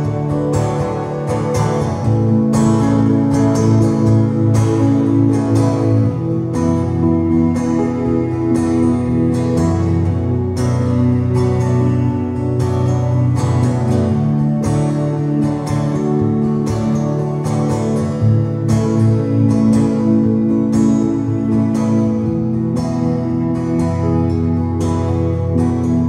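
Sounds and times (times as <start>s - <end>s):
acoustic guitar strumming: 0.0s - 26.0s
electric keyboard chords: 0.0s - 26.0s.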